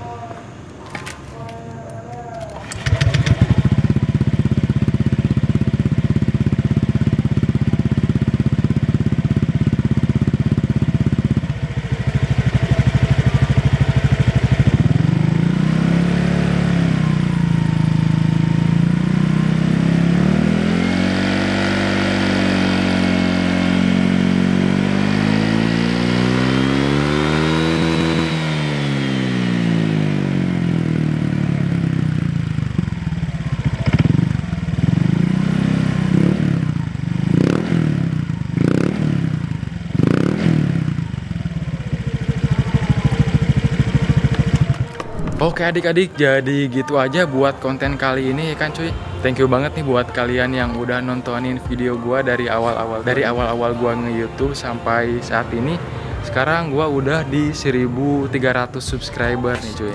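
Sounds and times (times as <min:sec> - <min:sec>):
scooter engine idling and revving: 0:02.5 - 0:45.9, 0:46.8 - 0:59.9.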